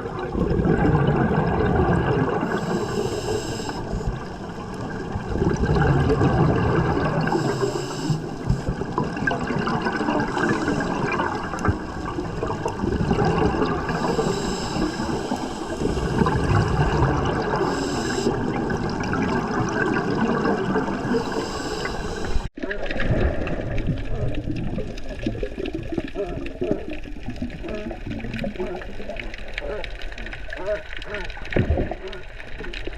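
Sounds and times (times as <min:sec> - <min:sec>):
sea water rushing and splashing: 0:00.0 - 0:32.9.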